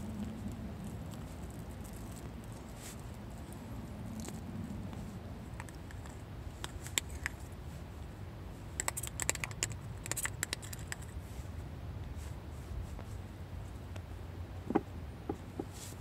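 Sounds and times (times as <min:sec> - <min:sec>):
low steady background rumble: 0:00.0 - 0:16.0.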